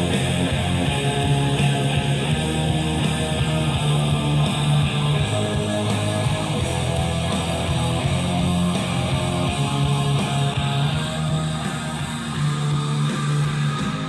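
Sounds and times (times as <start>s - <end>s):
rock song through speakers: 0.0s - 14.0s.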